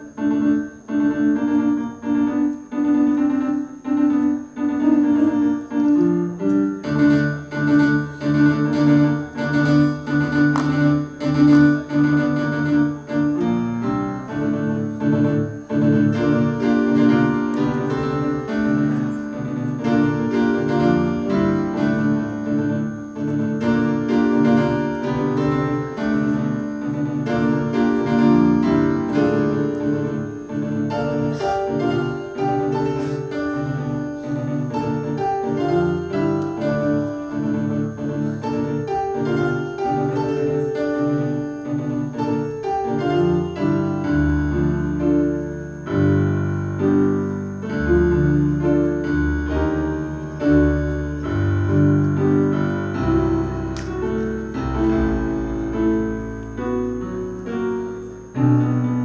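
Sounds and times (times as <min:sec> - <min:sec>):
electronic keyboards playing piano: 0:00.0 - 0:59.0.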